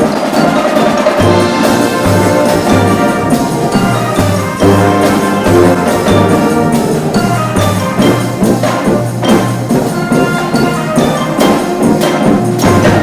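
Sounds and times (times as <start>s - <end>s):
brass band playing: 0.0s - 13.0s
drum strokes: 0.0s - 13.0s.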